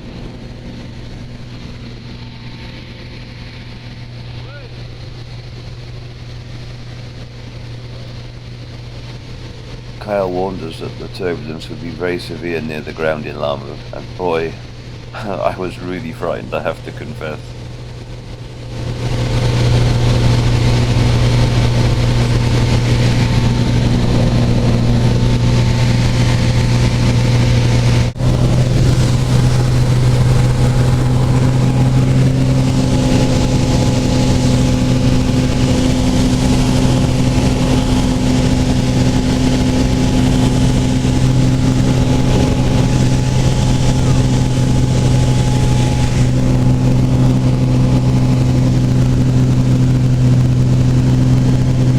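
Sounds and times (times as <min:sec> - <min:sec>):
propeller aircraft engine droning: 0:00.0 - 0:51.9.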